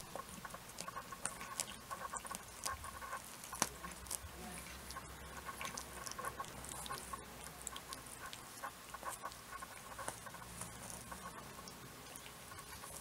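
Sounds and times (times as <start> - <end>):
paws and claws ticking: 0.0 - 13.0.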